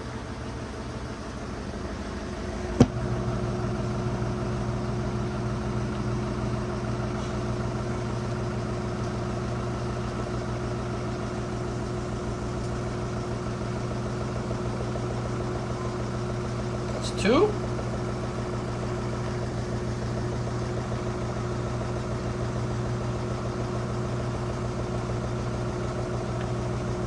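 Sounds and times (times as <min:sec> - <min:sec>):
washing machine spinning: 0:00.0 - 0:27.0.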